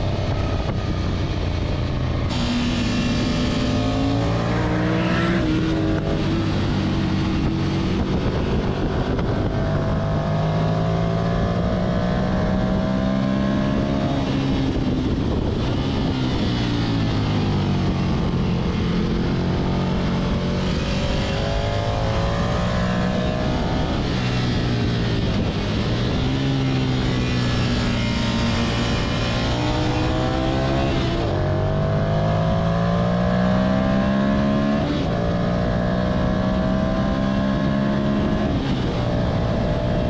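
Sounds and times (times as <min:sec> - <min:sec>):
heavy wind noise: 0:00.0 - 0:40.0
motorcycle engine revving: 0:00.0 - 0:40.0.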